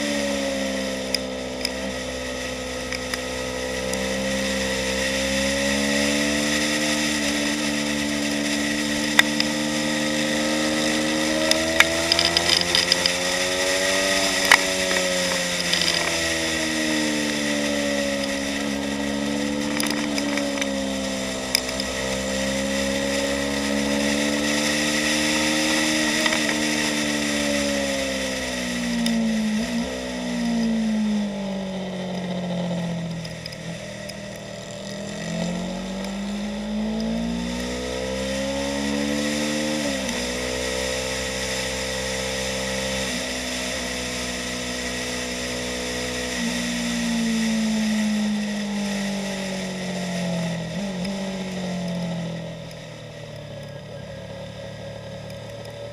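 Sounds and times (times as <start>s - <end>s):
motorcycle engine at speed: 0.0s - 55.9s.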